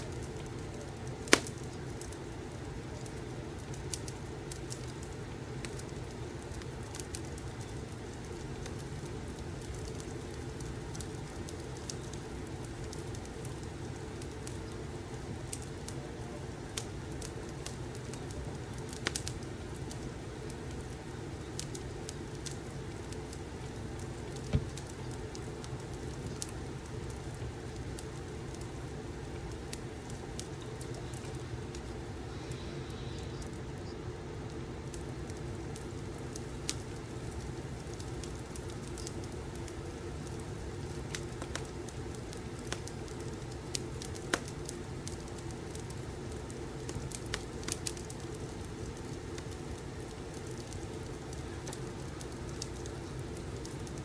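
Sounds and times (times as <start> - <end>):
low fire rumble: 0.0 - 54.0
wood fire crackling: 0.0 - 54.0.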